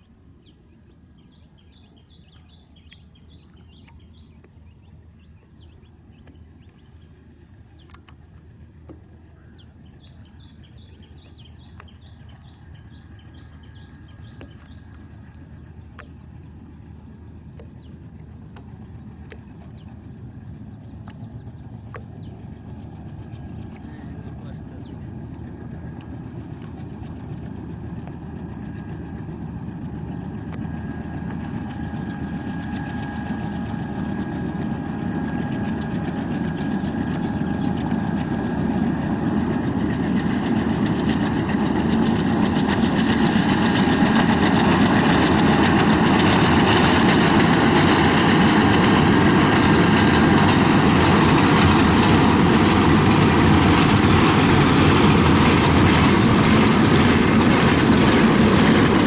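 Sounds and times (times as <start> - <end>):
diesel locomotive engine rumbling: 4.9 - 59.0.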